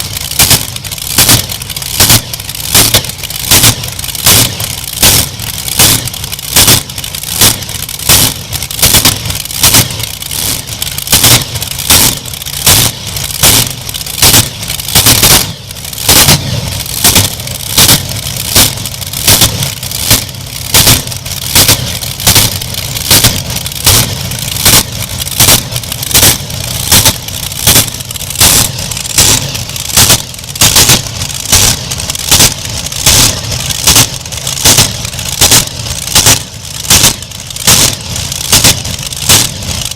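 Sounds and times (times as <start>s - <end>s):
loud sharp cracks: 0.0s - 39.9s
tractor engine running: 0.0s - 39.9s.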